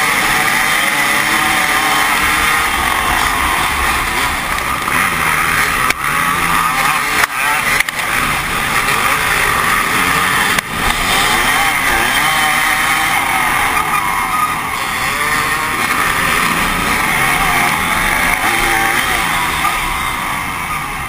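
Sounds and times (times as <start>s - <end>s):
dirt bike engine revving: 0.0s - 21.0s
other dirt bike engines: 0.0s - 21.0s.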